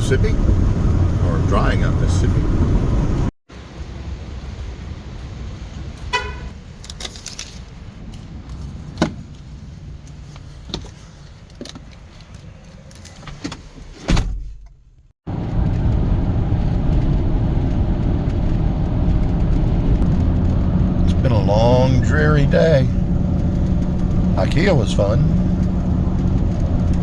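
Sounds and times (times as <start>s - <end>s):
van road rumble: 0.0s - 27.0s.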